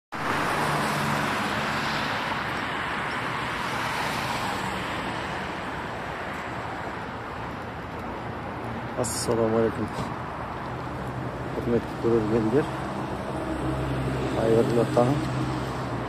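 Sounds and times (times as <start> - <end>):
car tyres and engine on street: 0.1 - 16.0.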